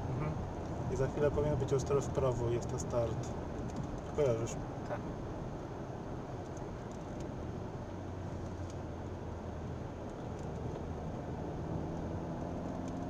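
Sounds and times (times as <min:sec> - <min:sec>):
car engine hum: 0:00.0 - 0:13.0
tyre and road noise: 0:00.0 - 0:13.0.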